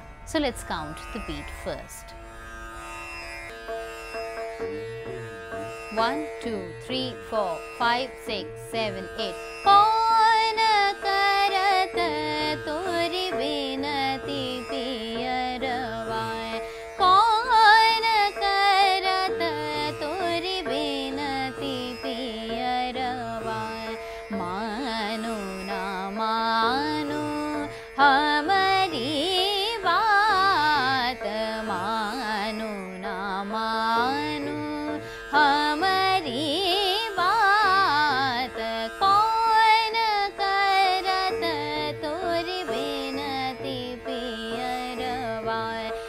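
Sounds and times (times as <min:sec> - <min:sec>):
plucked tanpura drone: 0:00.0 - 0:46.0
woman singing classical vocals: 0:05.9 - 0:46.0.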